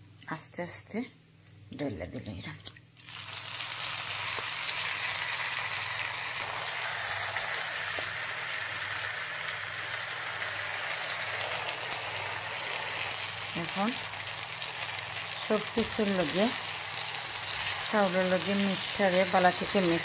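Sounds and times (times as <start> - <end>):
food sizzling in oil: 3.0 - 20.0.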